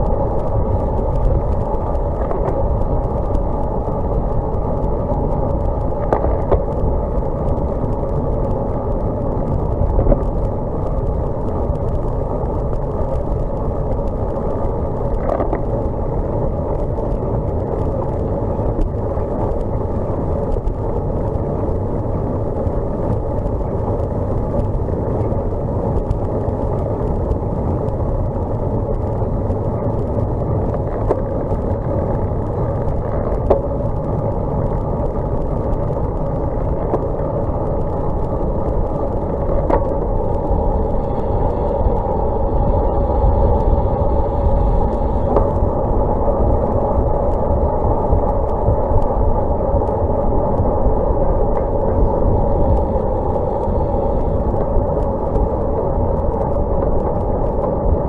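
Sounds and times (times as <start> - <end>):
faint clicks: 0.0 - 58.0
wind and road noise: 0.0 - 58.0.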